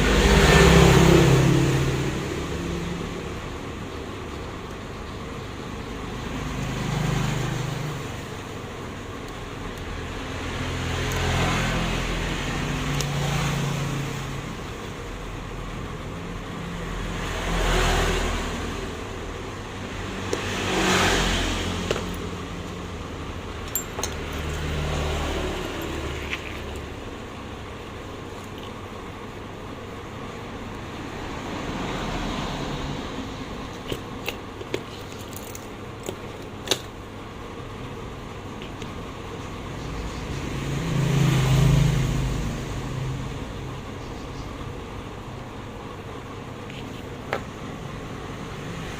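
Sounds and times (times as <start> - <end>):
vehicles passing by: 0.0 - 48.9.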